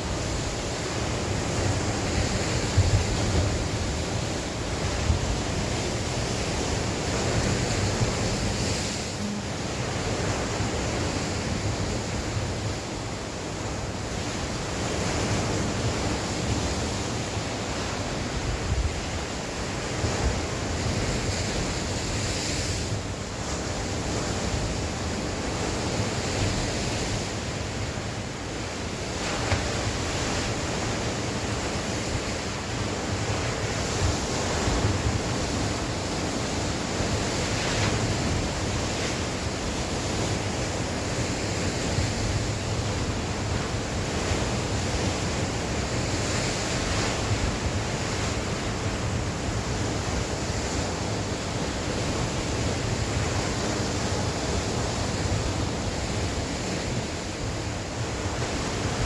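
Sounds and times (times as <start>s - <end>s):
sea waves washing on shore: 0.0s - 59.0s
wind rumbling on microphone: 0.0s - 59.0s.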